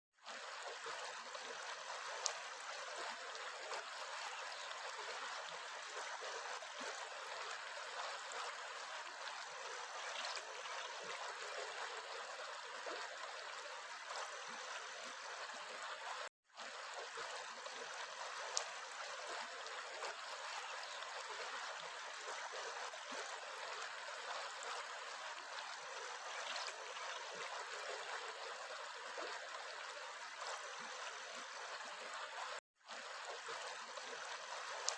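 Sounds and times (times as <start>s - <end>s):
stream trickling over stones: 0.2s - 34.9s.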